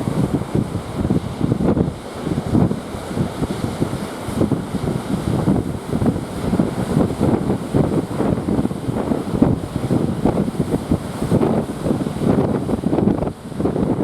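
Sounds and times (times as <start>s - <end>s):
sea waves: 0.0s - 14.0s
wind gusting on microphone: 0.0s - 14.0s.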